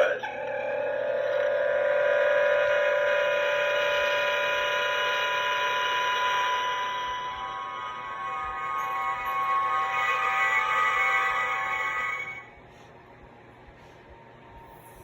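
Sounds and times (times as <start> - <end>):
shimmering transporter hum: 0.0 - 12.6.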